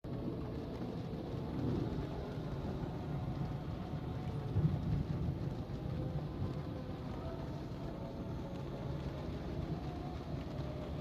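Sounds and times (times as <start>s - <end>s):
rain: 0.0s - 11.0s
vehicle rumbling: 0.1s - 11.0s.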